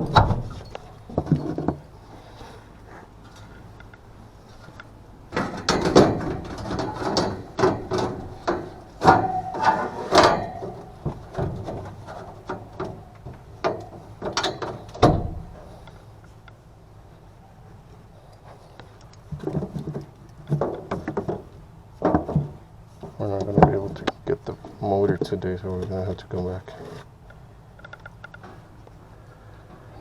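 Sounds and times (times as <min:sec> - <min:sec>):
hand tools and metal parts clattering: 0:00.0 - 0:16.4, 0:18.3 - 0:26.0.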